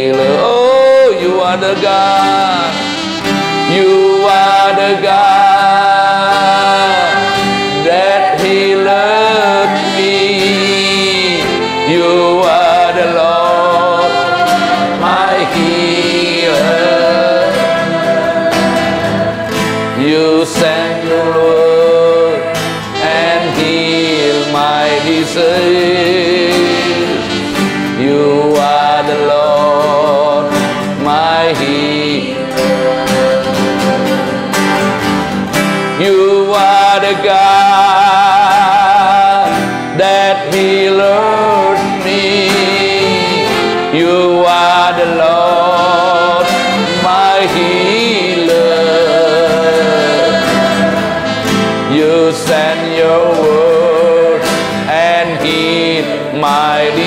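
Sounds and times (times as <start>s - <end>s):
band accompaniment: 0.0s - 37.6s, 39.4s - 57.0s
person singing with vibrato: 0.0s - 57.0s.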